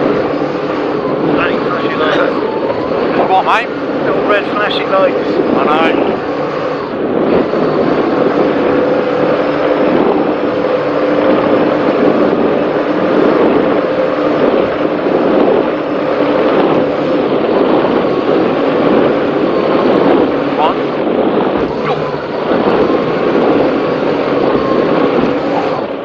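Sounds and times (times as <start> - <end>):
powerboat engines running hard: 0.0 - 26.0
rush of wind and water: 0.0 - 26.0.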